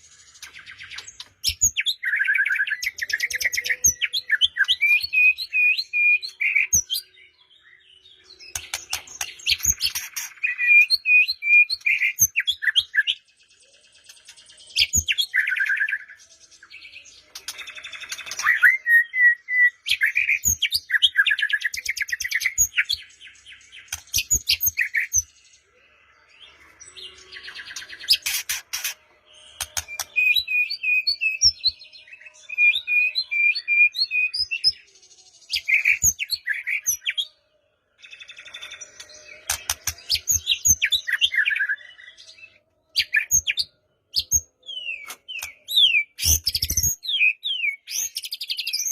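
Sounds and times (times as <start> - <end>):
songbird singing varied song: 0.0 - 48.9.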